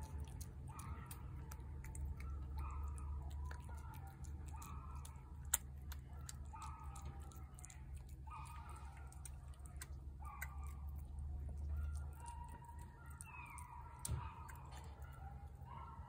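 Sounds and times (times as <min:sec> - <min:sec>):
cat chewing wetly: 0:00.0 - 0:16.0
steady low hum: 0:00.0 - 0:16.0.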